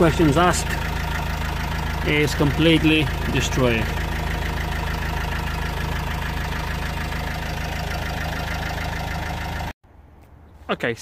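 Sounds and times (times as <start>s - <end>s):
diesel engine idling: 0.0s - 9.8s.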